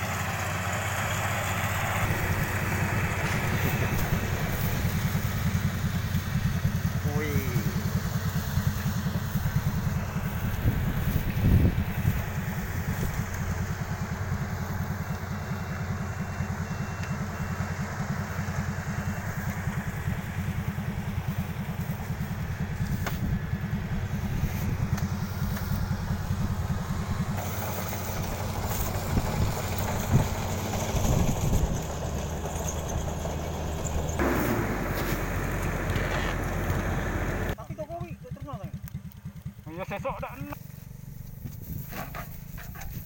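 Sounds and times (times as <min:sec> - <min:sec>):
combine harvester diesel engine running: 0:00.0 - 0:43.0.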